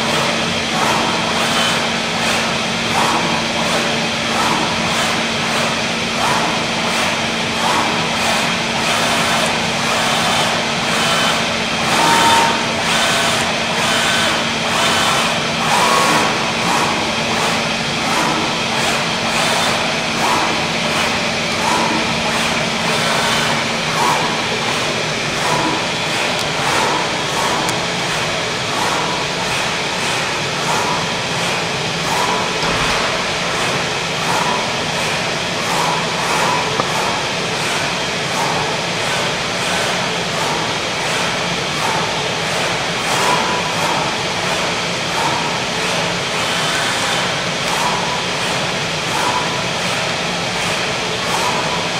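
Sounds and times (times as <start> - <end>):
cutter machine rushing hum: 0.0 - 51.9
cutting head drive whines: 0.0 - 51.9.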